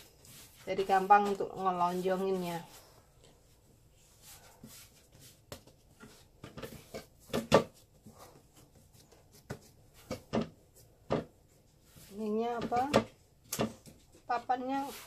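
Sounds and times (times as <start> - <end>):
soft rubbing of dough: 0.0 - 15.0.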